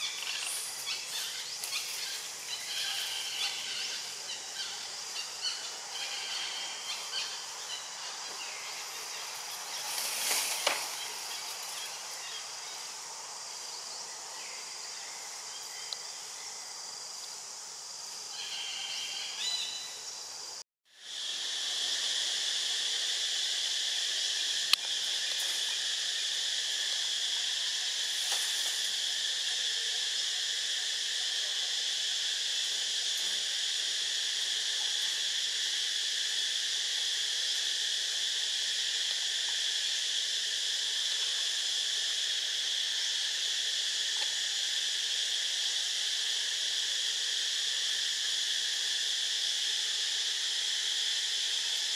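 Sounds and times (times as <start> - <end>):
faint hiss: 0.0 - 51.9
high insect drone: 0.0 - 51.9.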